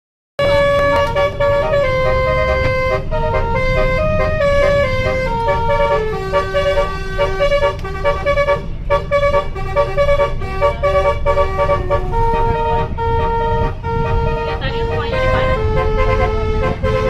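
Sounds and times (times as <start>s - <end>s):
bus musical horn playing tune: 0.4s - 17.0s
low rumble: 0.5s - 17.0s.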